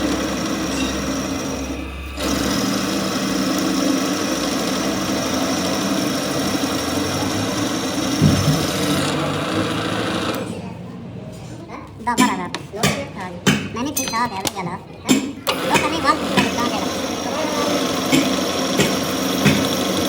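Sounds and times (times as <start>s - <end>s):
workshop machine humming and whining: 0.0s - 11.4s, 12.1s - 20.0s.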